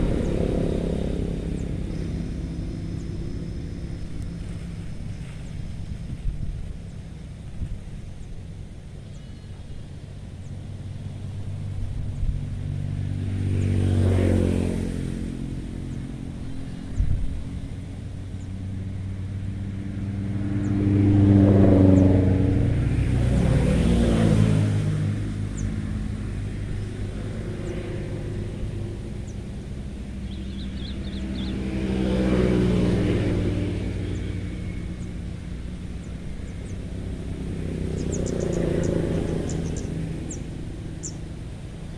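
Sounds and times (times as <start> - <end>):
steady traffic hum: 0.0 - 41.9
vehicles passing: 0.0 - 41.9.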